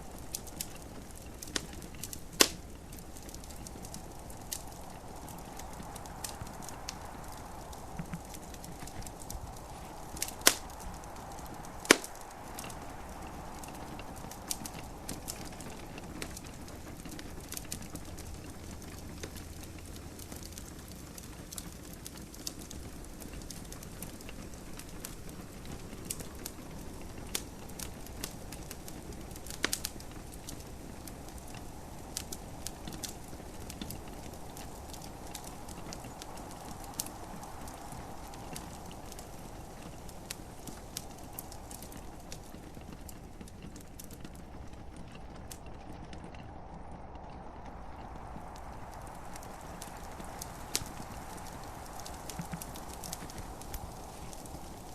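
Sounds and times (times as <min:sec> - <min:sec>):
fire popping loudly: 0:00.0 - 0:54.9
gentle rain: 0:00.0 - 0:54.9
wood fire crackling: 0:00.0 - 0:54.9.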